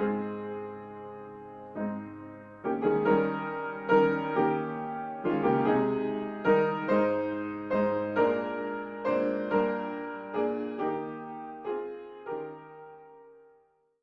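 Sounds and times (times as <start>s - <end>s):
gentle piano music: 0.0s - 13.7s.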